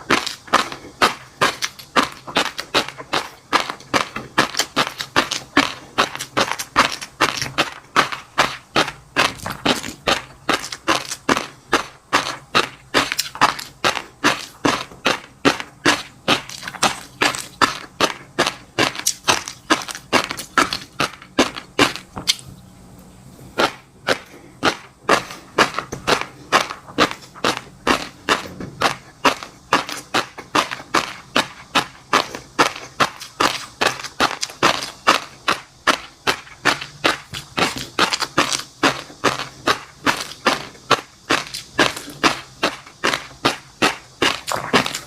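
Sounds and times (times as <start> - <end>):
crunchy chewing: 0.0 - 22.6, 23.4 - 45.0.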